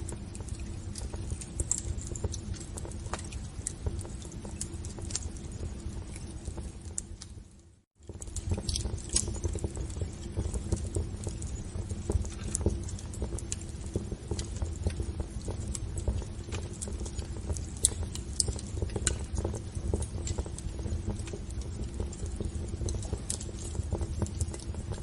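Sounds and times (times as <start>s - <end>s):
low rumble of flames: 0.0s - 25.0s
wood fire pops and snaps: 0.0s - 25.0s.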